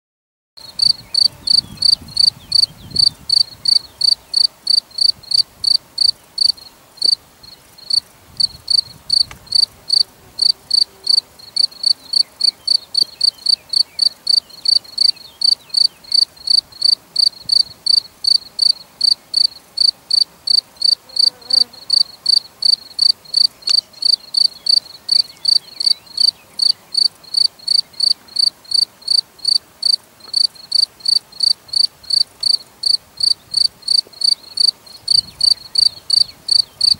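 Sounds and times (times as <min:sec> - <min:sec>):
cricket chirping: 0:00.6 - 0:36.9.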